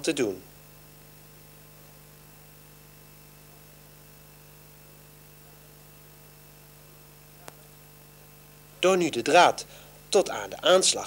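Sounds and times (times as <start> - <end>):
faint mains hum with hiss: 0.0 - 11.0.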